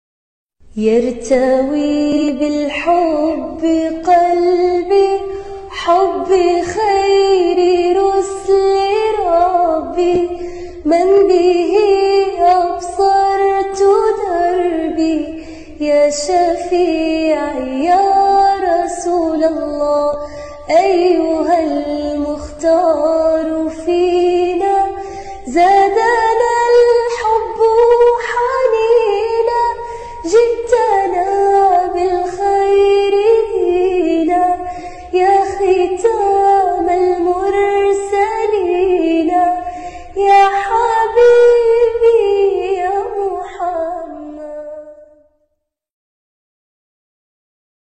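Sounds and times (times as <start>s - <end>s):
woman singing: 0.7s - 45.2s.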